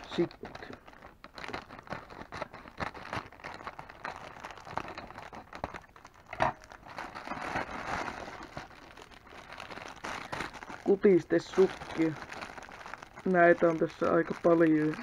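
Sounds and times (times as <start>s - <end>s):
plastic mailer bag crinkling: 0.0s - 15.0s.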